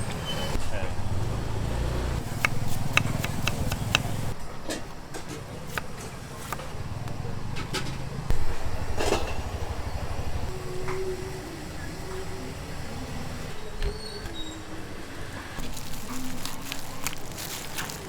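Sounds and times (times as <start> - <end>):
vehicle engine rumbling: 0.0 - 4.4, 5.2 - 18.0.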